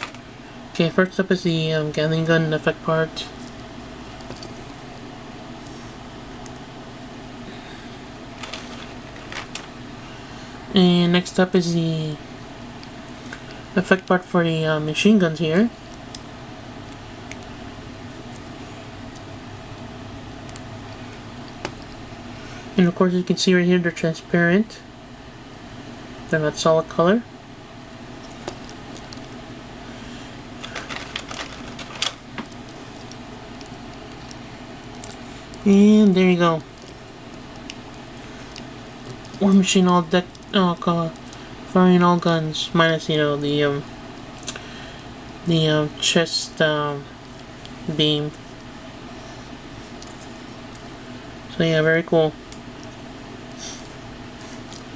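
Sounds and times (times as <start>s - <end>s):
fan humming: 0.0s - 54.9s.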